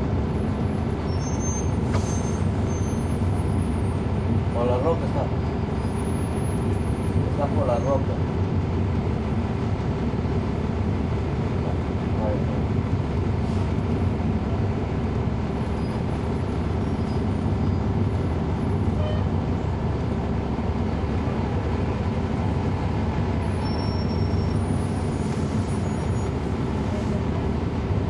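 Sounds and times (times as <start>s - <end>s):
bus diesel engine droning: 0.0s - 28.0s
road noise: 0.0s - 28.0s.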